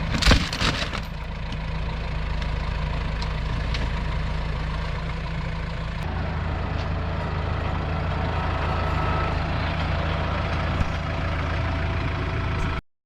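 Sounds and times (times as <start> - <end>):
heavy vehicle engine idling: 0.0 - 12.8.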